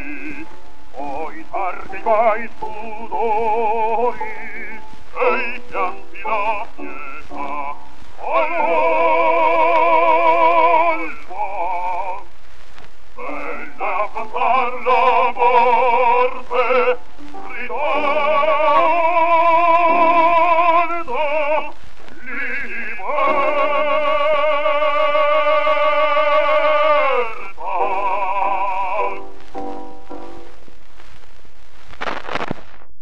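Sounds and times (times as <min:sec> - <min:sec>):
opera duet singing on old record: 0:00.0 - 0:12.4, 0:13.1 - 0:31.1
record surface hiss: 0:00.0 - 0:33.0.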